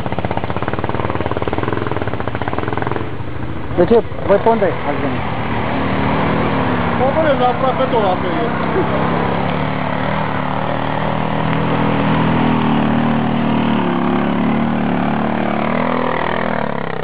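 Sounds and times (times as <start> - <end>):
quad bike engine under load: 0.0 - 17.0.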